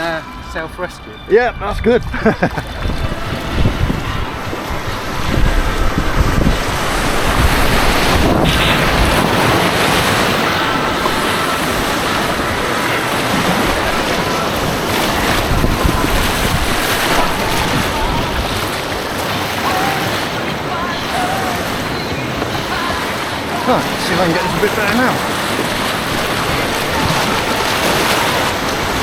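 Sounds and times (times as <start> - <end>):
wind buffeting microphone: 0.0 - 29.0
rushing white water: 2.2 - 29.0.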